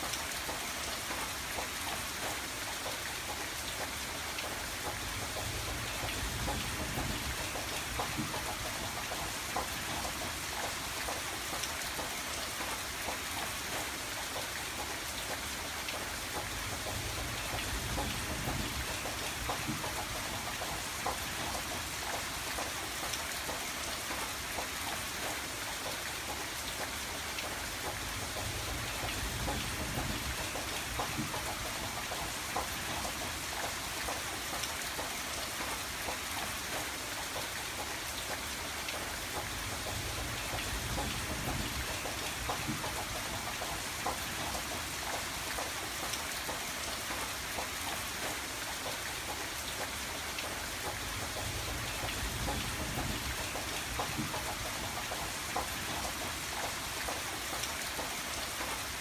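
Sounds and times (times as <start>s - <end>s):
rain pattering on window glass: 0.0s - 59.0s.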